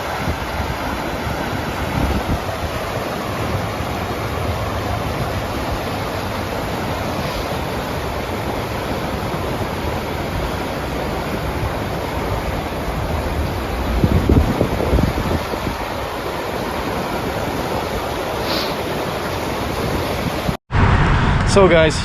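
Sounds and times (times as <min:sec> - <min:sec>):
wind noise on microphone: 0:00.0 - 0:21.6.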